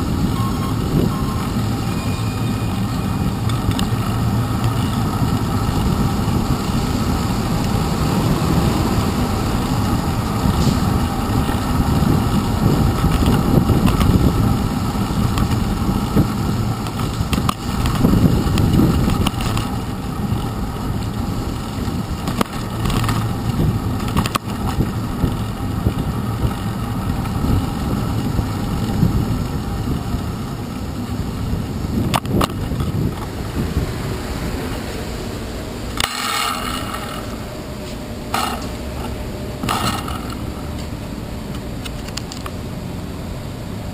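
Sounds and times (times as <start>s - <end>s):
car engines: 0.0s - 43.9s
wind and road rumble: 0.0s - 43.9s.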